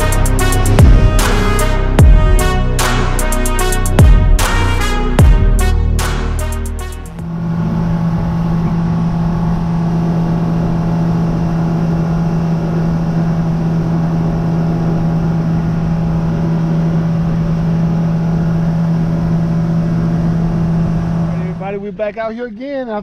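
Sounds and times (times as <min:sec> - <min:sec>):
outboard engine running: 0:00.0 - 0:22.5.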